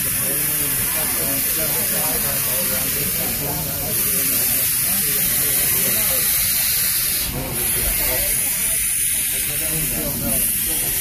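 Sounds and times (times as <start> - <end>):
faint voices: 0.0 - 11.0
steam train hiss: 0.0 - 11.0.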